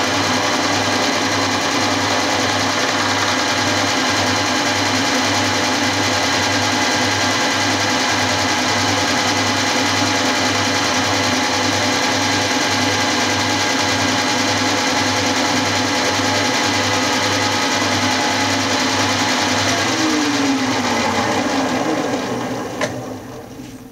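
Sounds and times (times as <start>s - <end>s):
milling machine cutting: 0.0s - 23.7s
machine winding down whine: 0.0s - 23.8s.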